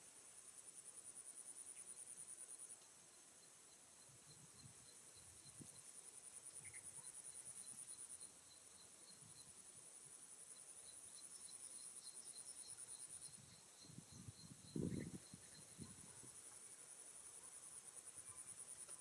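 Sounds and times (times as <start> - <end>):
insects trilling: 0.7 - 19.0.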